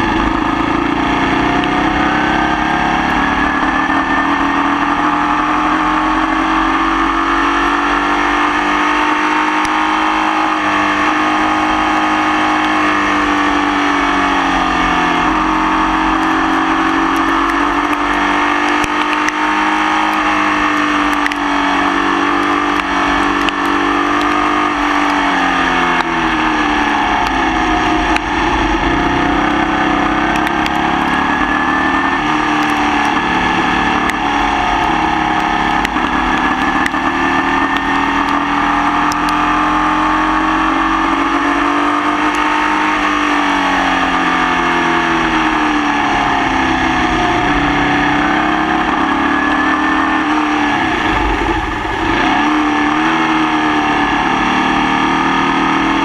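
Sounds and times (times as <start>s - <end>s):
misfiring racing car engine: 0.0s - 56.0s.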